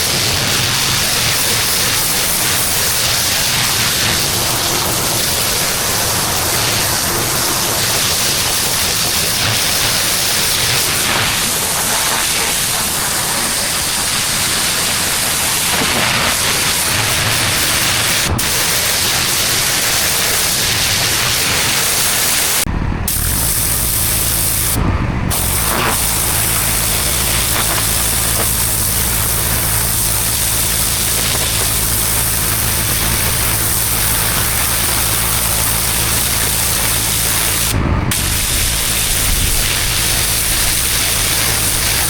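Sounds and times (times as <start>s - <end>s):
pressure washer spraying paving: 0.0s - 42.0s.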